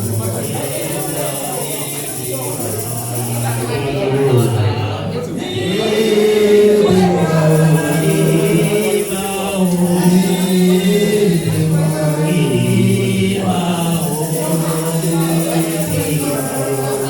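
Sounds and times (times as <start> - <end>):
voices singing gospel song: 0.0 - 17.0.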